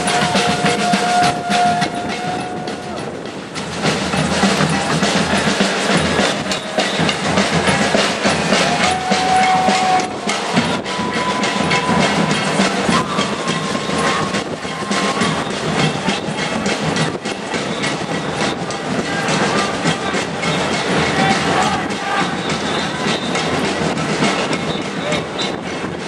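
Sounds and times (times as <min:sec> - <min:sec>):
marching street noise rumble: 0:00.0 - 0:26.0.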